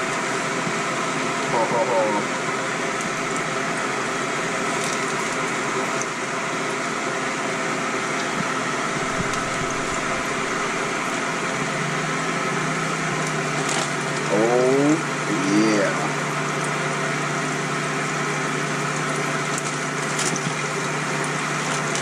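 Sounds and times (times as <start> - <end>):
oil sizzling and crackling: 2.4 - 14.3, 16.1 - 22.0.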